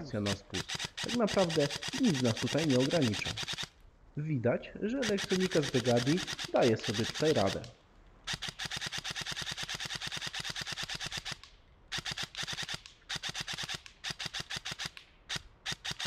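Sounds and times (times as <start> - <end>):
airsoft rifle firing bursts: 0.0 - 3.7, 5.0 - 7.7, 8.3 - 16.0.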